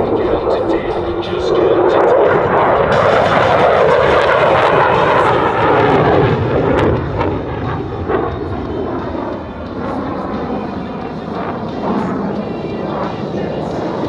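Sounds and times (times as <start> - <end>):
fighter jet engine roar: 0.0 - 14.0.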